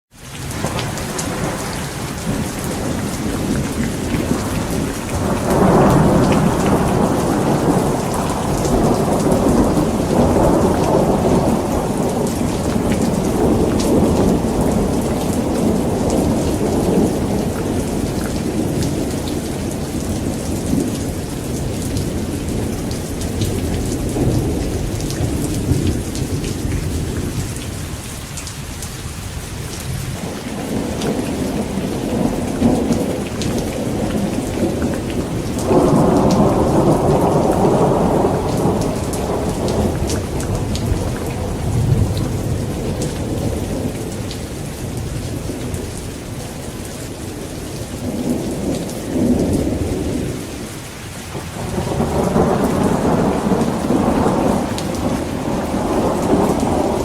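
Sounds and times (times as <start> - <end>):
heavy rain: 0.1 - 57.0
rolling thunder: 0.5 - 28.0, 29.8 - 50.7, 51.3 - 57.0.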